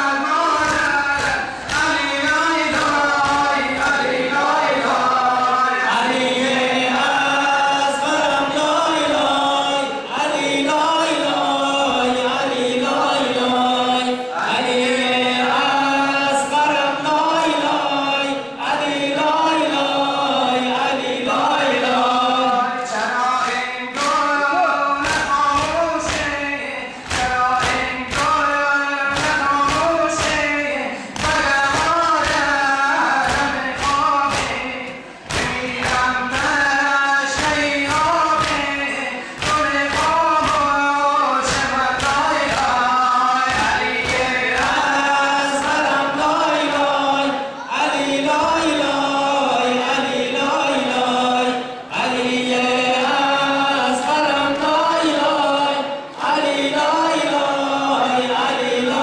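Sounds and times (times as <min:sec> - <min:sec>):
crowd of men chanting: 0:00.0 - 0:59.0
men chanting into a microphone: 0:00.0 - 0:59.0.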